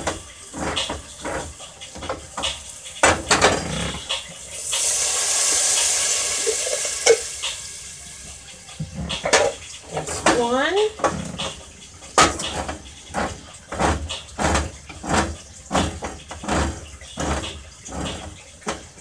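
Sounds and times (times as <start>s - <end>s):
can opener clicking and grinding: 0.0s - 7.7s, 11.0s - 19.0s
broth sizzling in hot pot: 0.0s - 19.0s.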